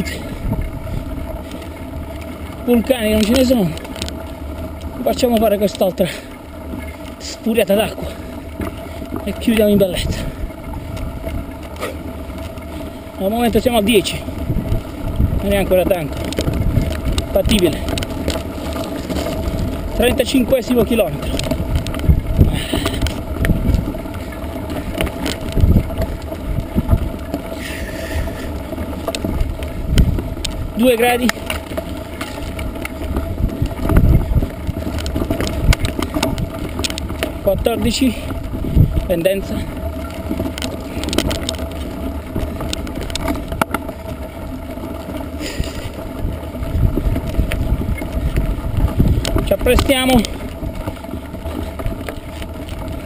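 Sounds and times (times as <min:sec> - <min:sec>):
bike knocks and rattles: 0:00.0 - 0:53.0
tyres rumbling over loose stones: 0:00.0 - 0:53.0
wind buffeting microphone: 0:00.0 - 0:53.0.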